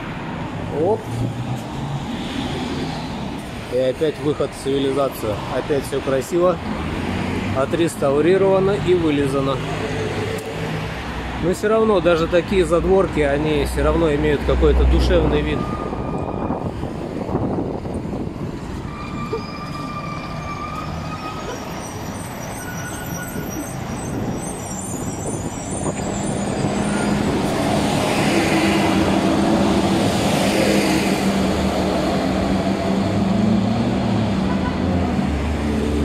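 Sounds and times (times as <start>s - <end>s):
street traffic: 0.0s - 36.0s.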